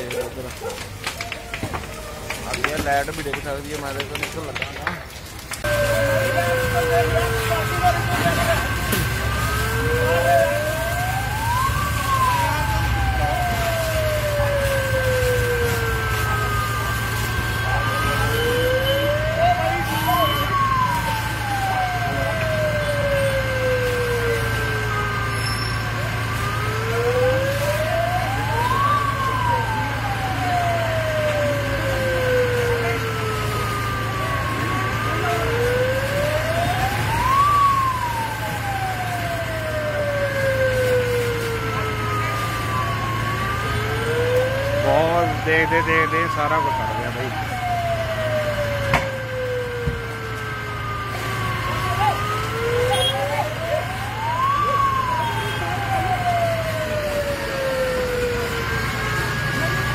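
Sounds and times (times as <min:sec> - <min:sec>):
fire engine siren wailing: 0:00.0 - 0:59.9.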